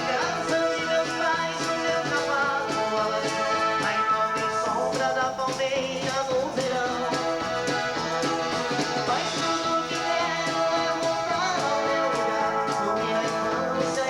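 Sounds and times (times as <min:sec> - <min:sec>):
dance band playing live: 0:00.0 - 0:14.0.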